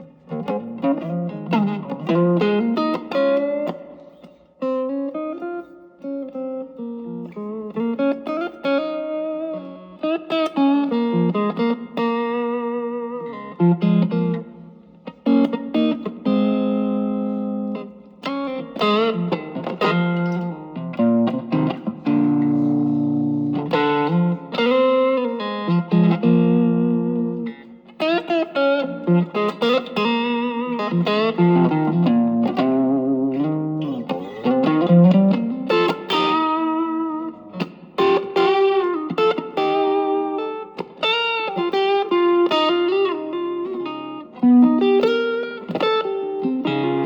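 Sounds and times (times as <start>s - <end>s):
overdriven electric guitar: 0.0s - 47.0s.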